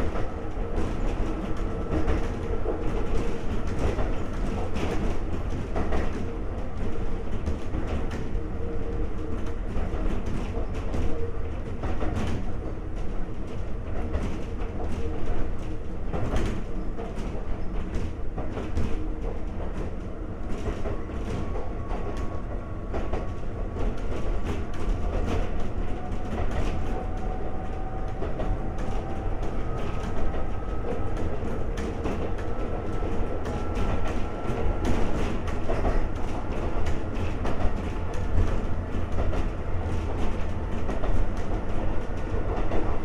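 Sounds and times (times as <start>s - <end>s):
train rumble: 0.0s - 43.0s.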